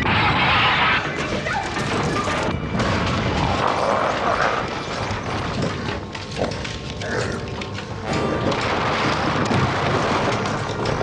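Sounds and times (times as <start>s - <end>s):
crashing and booming: 0.0s - 6.2s, 8.0s - 11.0s
music: 0.0s - 11.0s.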